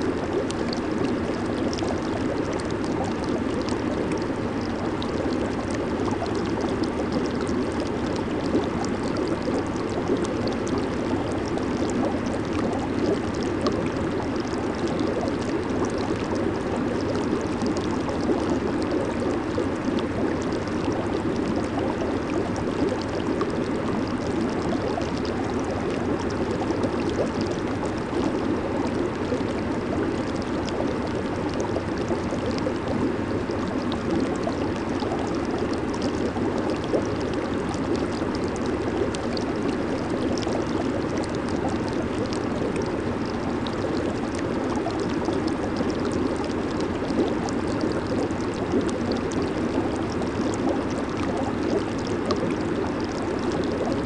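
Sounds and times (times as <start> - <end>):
jacuzzi water bubbling: 0.0 - 54.0.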